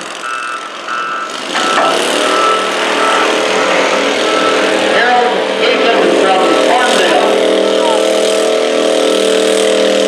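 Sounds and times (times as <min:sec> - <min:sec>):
garden tractor engine under load: 0:00.0 - 0:10.0.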